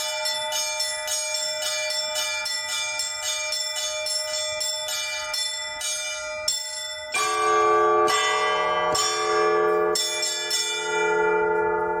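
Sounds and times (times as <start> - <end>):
high small bells chiming: 0.0 - 12.0
large low bell striking: 0.0 - 12.0.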